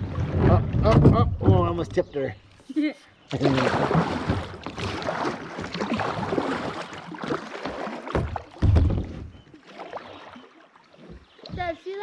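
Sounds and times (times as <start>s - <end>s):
kayak splashing through water: 0.0s - 1.2s, 3.3s - 12.0s.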